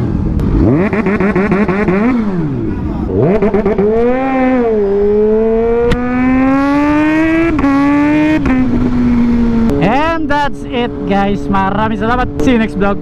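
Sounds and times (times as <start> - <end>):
motorcycle accelerating: 0.0 - 13.0
motorcycle engines revving: 0.0 - 13.0.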